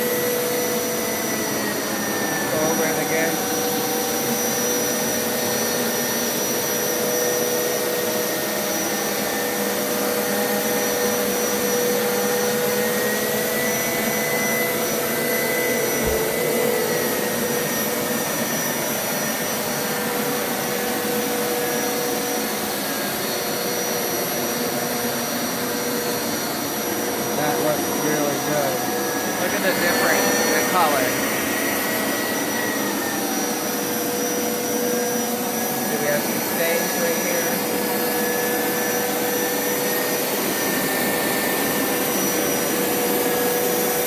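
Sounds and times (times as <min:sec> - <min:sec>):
carpet washer motor whine: 0:00.0 - 0:44.0.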